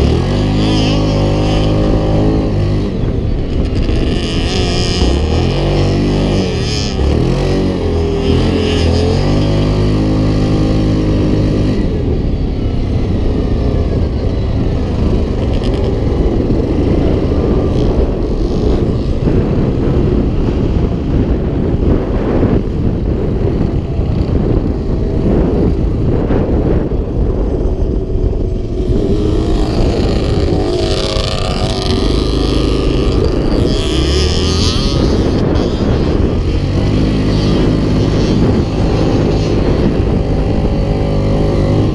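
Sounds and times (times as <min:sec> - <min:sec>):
quad engine revving: 0:00.0 - 0:41.9
wind noise on microphone: 0:00.0 - 0:41.9.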